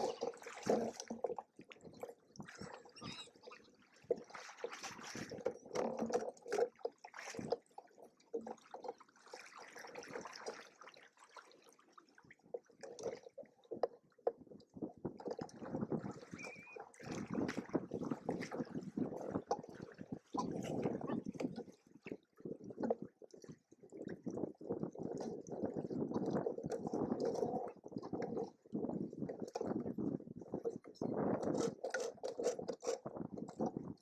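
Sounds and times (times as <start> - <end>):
water lapping against hulls: 0.0 - 34.0.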